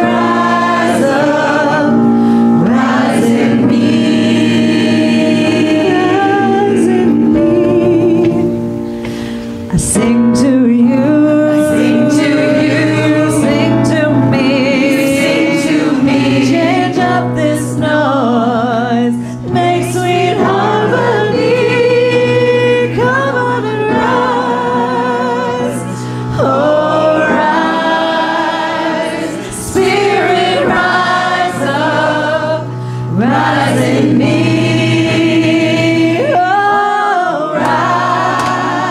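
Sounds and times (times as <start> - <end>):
choir singing gospel song: 0.0 - 38.9.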